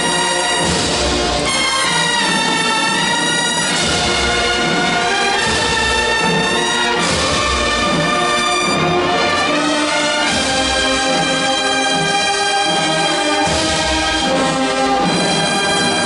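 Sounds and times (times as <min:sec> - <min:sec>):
brass band playing funeral march: 0:00.0 - 0:16.0
low drum beats: 0:00.0 - 0:16.0.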